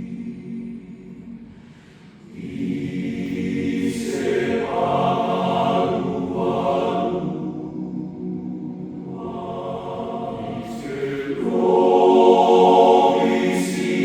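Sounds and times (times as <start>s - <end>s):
men's choir singing a hymn: 0.0s - 1.3s, 2.2s - 14.0s.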